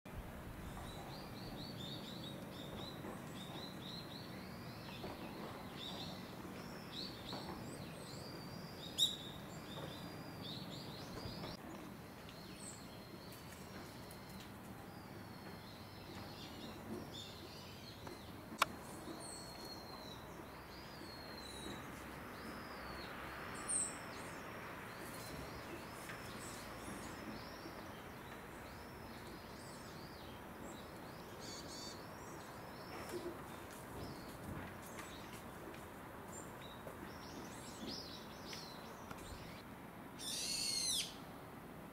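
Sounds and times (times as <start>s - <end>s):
small birds chirping: 0.6s - 39.6s.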